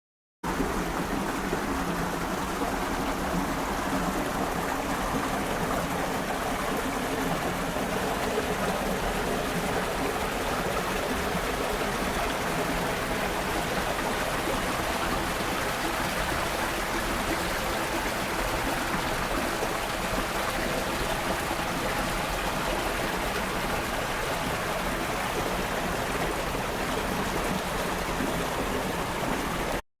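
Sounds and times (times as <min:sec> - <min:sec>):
running water rushing: 0:00.5 - 0:29.8.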